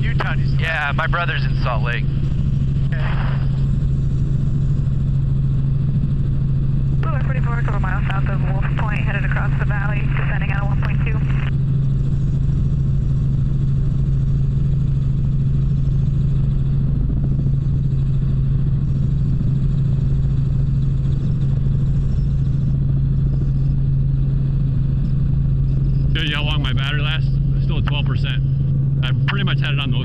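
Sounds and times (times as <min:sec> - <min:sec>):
helicopter cabin drone: 0:00.0 - 0:30.0.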